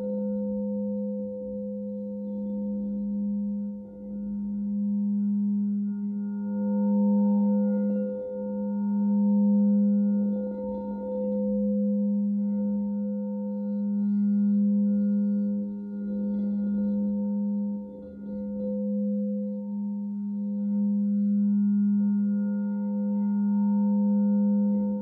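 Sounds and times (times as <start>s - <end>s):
crystal singing bowl humming: 0.0s - 25.0s.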